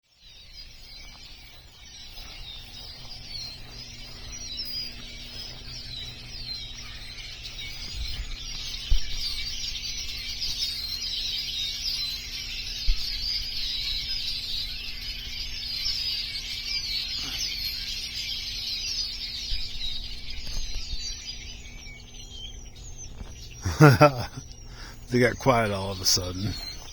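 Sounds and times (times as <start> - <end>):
flock of birds chirping: 0.0 - 26.9.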